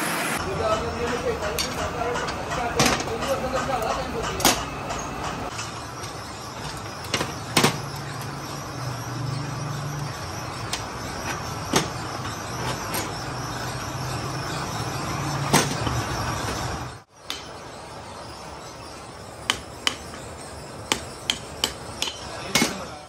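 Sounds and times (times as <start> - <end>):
low hum of machinery: 0.0 - 23.0.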